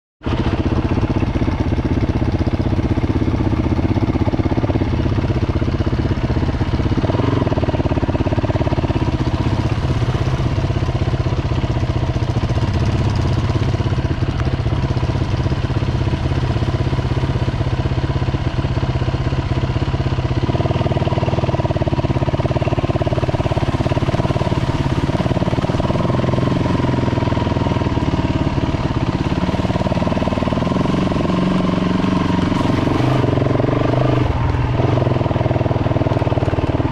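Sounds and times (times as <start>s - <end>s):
dirt bike engine running: 0.2s - 36.9s.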